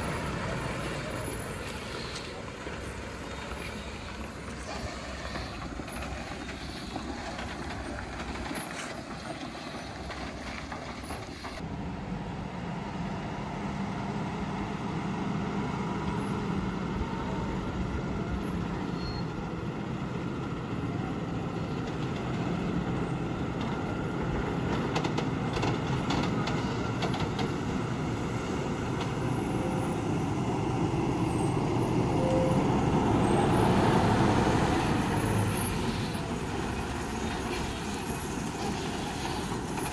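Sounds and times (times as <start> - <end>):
diesel lorry engine under load: 0.0 - 39.9.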